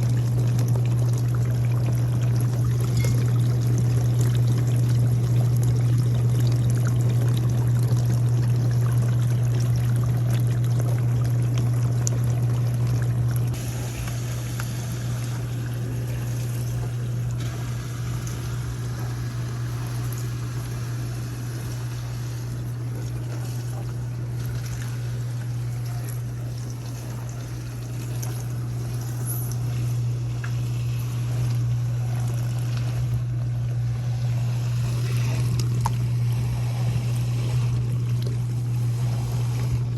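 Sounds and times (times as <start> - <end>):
dishwasher motor humming: 0.0 - 39.9
water splashing and pouring: 0.0 - 39.9.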